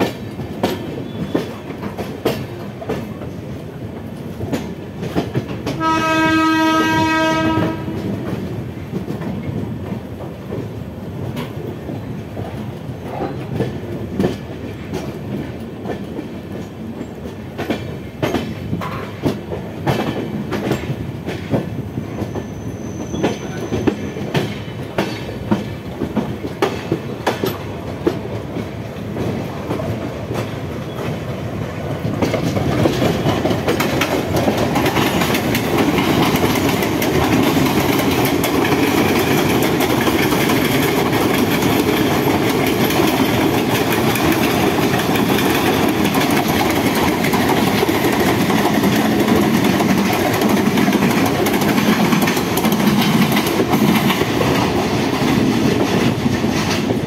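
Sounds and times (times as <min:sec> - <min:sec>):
passing train rumble: 0:00.0 - 0:57.0
train wheels clicking over rail joints: 0:00.0 - 0:57.0.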